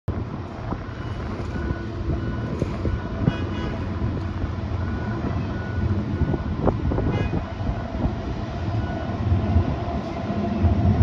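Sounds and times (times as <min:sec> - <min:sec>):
steady low rumble: 0:00.1 - 0:11.0.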